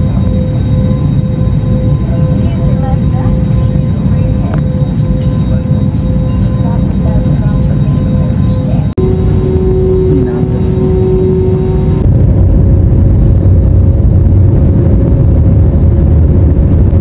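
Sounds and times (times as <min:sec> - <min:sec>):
airliner taxiing rumble: 0:00.0 - 0:17.0
steady hum: 0:00.0 - 0:17.0.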